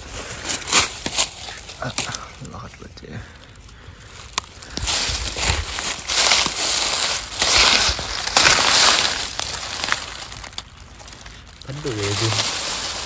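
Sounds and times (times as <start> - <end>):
crunching and rustling: 0.0 - 13.0.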